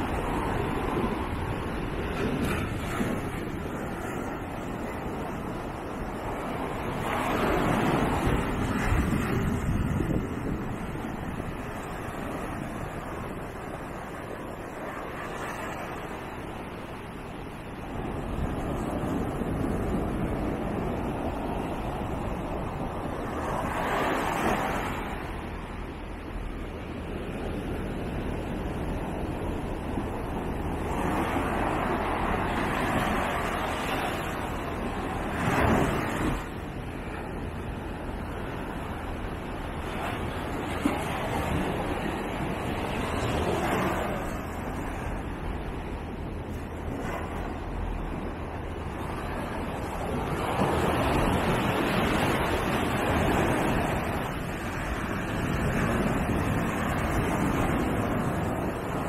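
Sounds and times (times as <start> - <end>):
ocean surf breaking: 0.0 - 59.0
wind rumble on microphone: 0.0 - 59.0.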